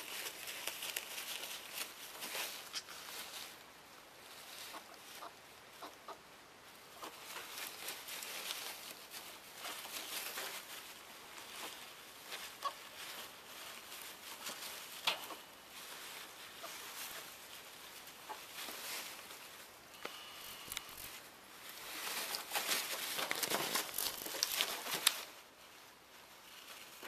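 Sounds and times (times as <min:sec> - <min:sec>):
paper bedding rustling: 0:00.0 - 0:03.6, 0:07.1 - 0:27.0
scratching: 0:00.0 - 0:03.6, 0:06.9 - 0:27.0.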